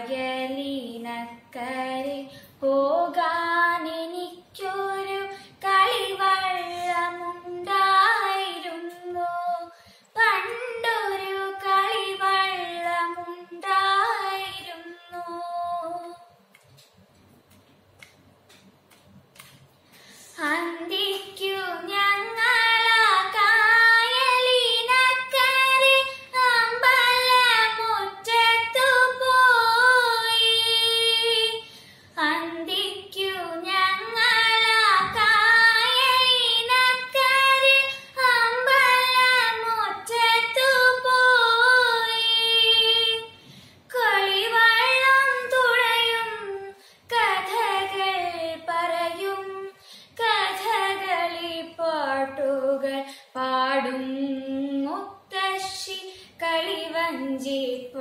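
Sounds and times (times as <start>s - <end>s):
girl singing unaccompanied: 0.0s - 16.5s, 20.3s - 58.0s.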